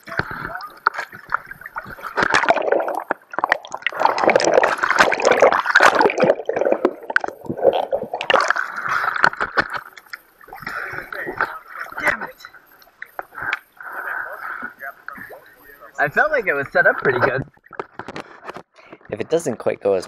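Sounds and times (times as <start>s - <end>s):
water churning and splashing: 0.0s - 18.1s.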